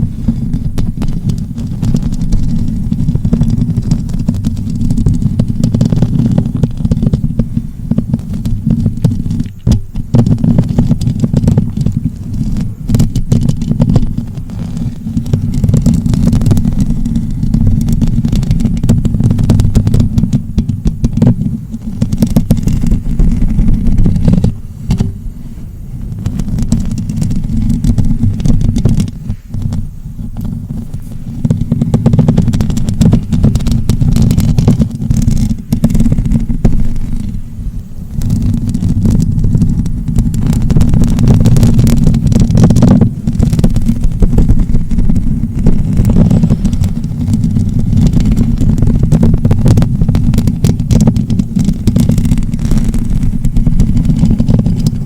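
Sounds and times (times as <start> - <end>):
muffled rubbing on microphone: 0.0 - 55.0.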